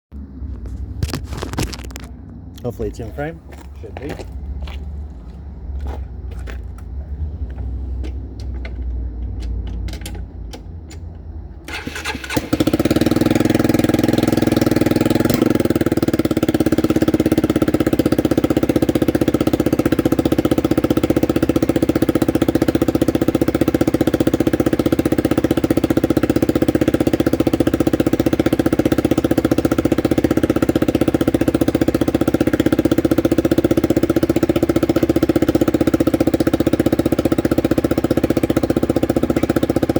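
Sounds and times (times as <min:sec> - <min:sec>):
motorcycle engine starting and idling: 0:00.2 - 0:39.9.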